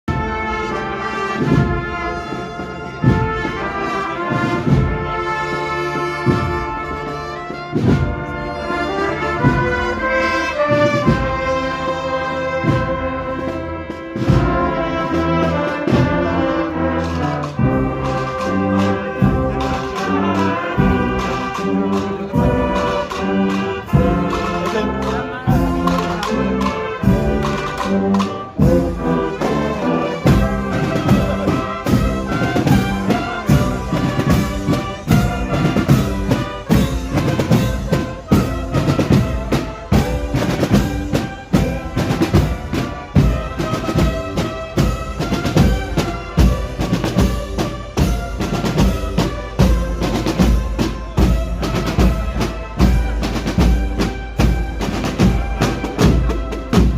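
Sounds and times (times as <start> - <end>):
brass band playing: 0.0 - 56.9
drums steady beat: 0.1 - 56.9.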